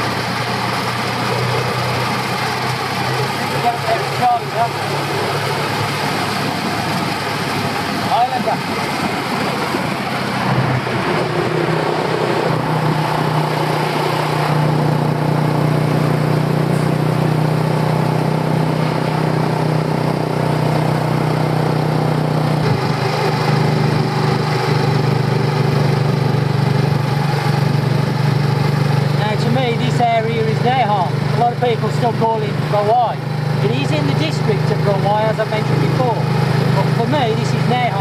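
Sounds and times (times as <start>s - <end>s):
motor scooter engine running: 0.0s - 38.0s
road and wind noise: 0.0s - 38.0s.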